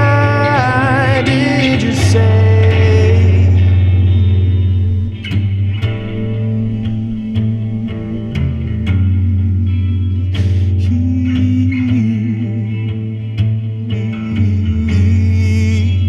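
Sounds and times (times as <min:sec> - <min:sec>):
instrumental rock music: 0:00.0 - 0:15.7
wavering guitar note: 0:00.0 - 0:16.0.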